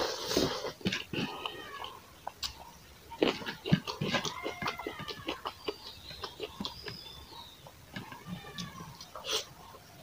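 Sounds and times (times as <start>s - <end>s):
man chewing with open mouth: 0.0s - 10.0s.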